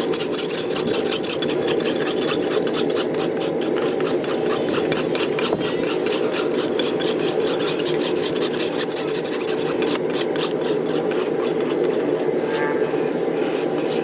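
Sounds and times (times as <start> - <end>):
rasping strokes on hoof: 0.0 - 14.0.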